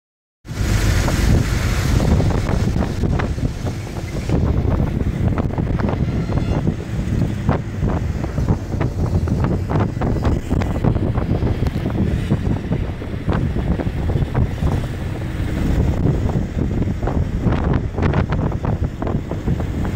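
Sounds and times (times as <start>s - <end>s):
low engine and road rumble: 0.4s - 19.9s
wind buffeting microphone: 0.4s - 19.9s.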